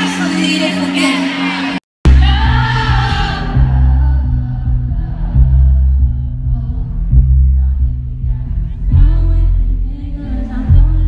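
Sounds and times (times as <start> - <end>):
heavy deep bass: 2.0 - 11.0.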